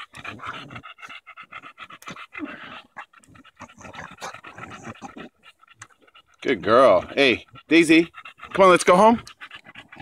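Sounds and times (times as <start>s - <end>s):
dog panting hard: 0.0s - 10.0s.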